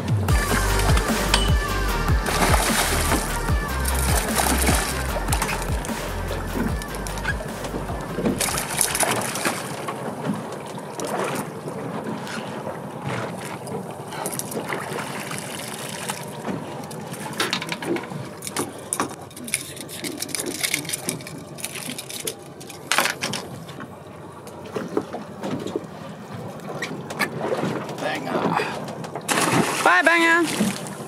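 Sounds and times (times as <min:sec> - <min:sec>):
water splashing at boat hull: 0:00.0 - 0:31.0.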